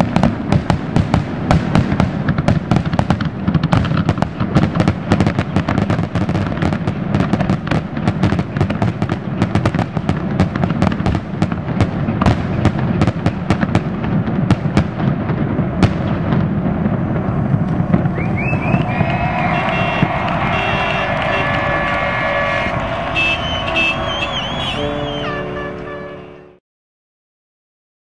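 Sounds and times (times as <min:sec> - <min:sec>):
firework bursts: 0:00.0 - 0:26.0.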